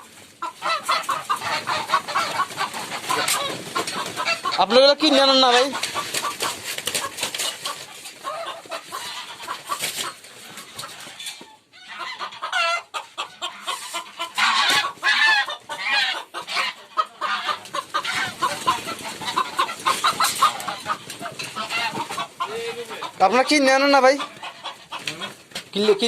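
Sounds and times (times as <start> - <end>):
chickens clucking and squawking: 0.0 - 26.0.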